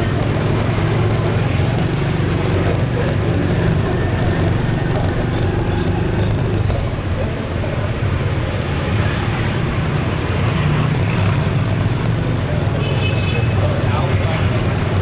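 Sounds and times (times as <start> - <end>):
motorbike engine: 0.0 - 15.0
road and wind noise: 0.0 - 15.0
surrounding traffic rumble: 0.0 - 15.0.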